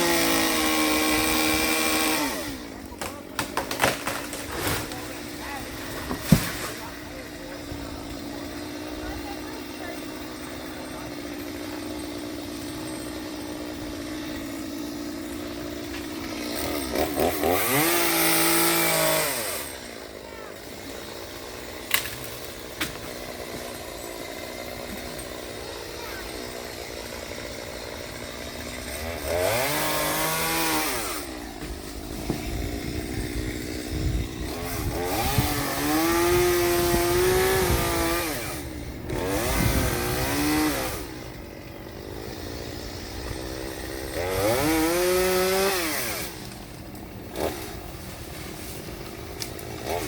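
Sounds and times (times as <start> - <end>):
chainsaw idling and revving: 0.0 - 50.0.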